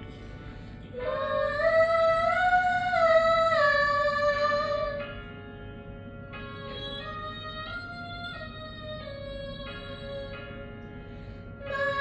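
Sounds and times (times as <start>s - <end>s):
quiet backing music: 0.0s - 12.0s.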